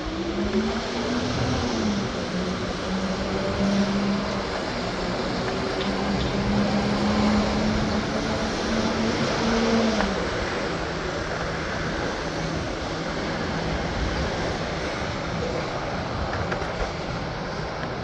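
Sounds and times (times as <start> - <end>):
subway train rumbling: 0.0 - 18.0
train motor hum: 0.0 - 18.0.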